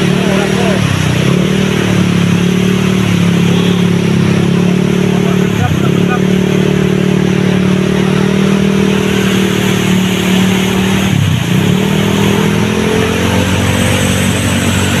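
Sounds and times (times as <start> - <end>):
motorcycle engine running: 0.0 - 15.0
water rushing and splashing: 0.0 - 15.0.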